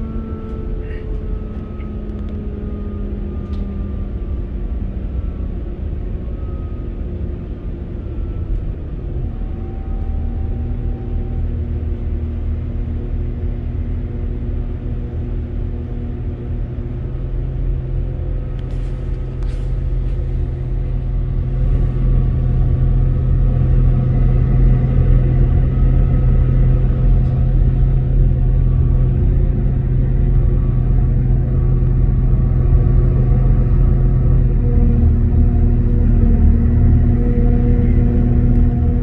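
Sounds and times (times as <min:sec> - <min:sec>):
train diesel engine drone: 0:00.0 - 0:39.0.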